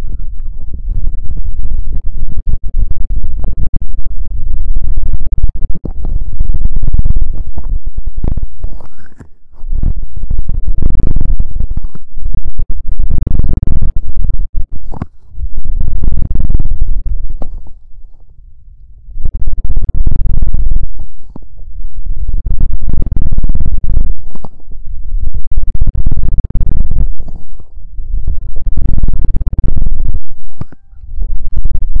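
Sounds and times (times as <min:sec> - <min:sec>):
low rumble: 0:00.0 - 0:32.0
scratching on a microphone: 0:00.0 - 0:32.0.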